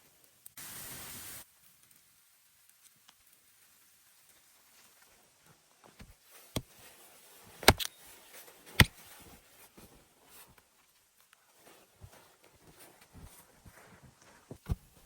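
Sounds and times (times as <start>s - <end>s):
soft handling noise: 2.7s - 15.0s.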